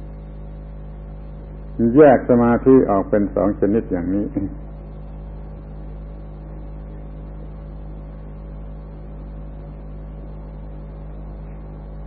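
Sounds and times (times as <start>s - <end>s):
tape hum and hiss: 0.0s - 12.0s.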